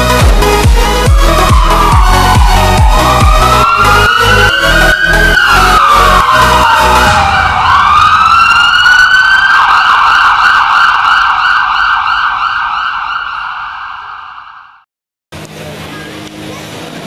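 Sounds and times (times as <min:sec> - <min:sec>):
emergency vehicle siren: 0:00.0 - 0:14.8.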